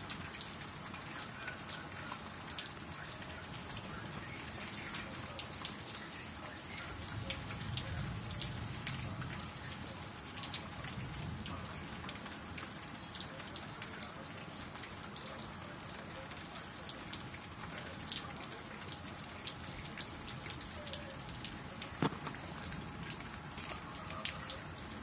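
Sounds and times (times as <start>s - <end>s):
rain falling: 0.0s - 25.0s
raindrops tapping: 0.0s - 25.0s.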